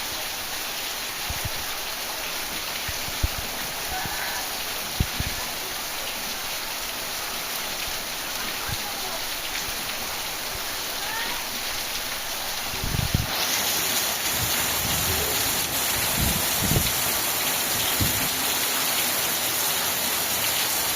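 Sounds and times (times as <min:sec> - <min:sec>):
heavy rain in strong wind: 0:00.0 - 0:20.9.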